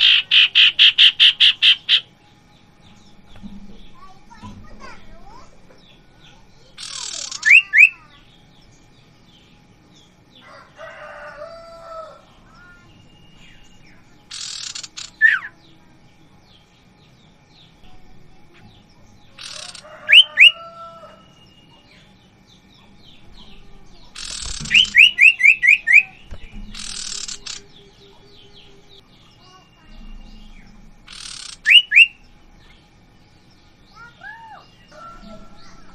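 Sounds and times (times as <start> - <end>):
birds whistling downward: 0.0 - 2.2, 5.2 - 15.7, 19.0 - 35.9
birds rasping calls: 0.0 - 35.9.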